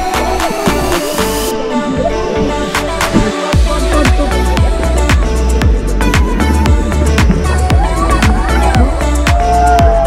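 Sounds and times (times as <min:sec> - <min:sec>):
deep bass: 0:00.0 - 0:10.0
electronic dance music: 0:00.0 - 0:10.0.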